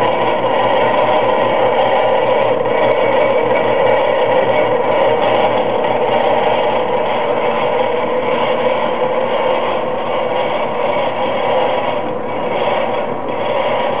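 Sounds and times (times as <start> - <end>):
drill press mechanical whir: 0.0 - 14.0.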